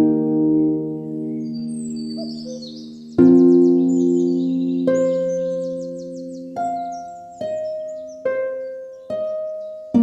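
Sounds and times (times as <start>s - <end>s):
birds chirping and trilling: 0.0s - 10.0s
harp music: 0.0s - 10.0s.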